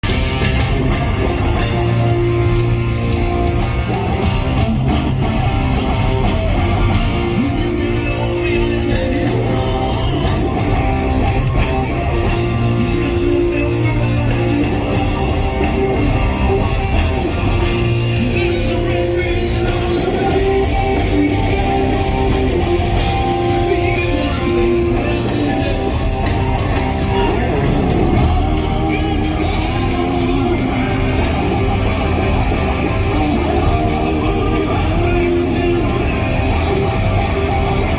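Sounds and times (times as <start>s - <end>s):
electric guitar: 0.0s - 37.9s
rock band playing live: 0.0s - 37.9s.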